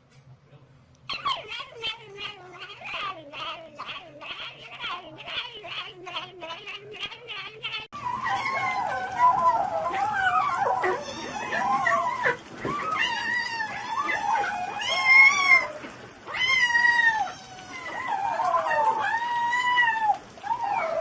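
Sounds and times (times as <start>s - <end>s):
cat yowling: 1.1s - 21.0s.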